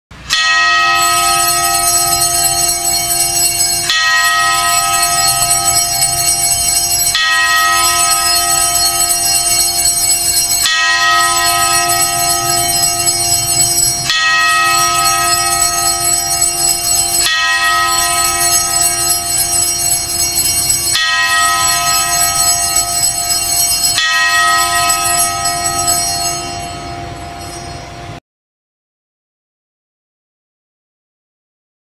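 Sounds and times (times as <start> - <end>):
bell ringing: 0.3 - 28.2.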